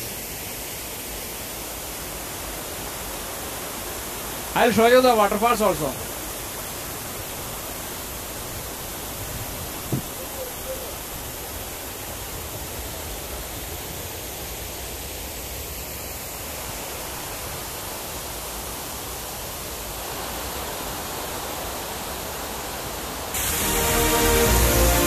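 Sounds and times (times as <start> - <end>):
river water rushing over rocks: 0.0 - 25.0.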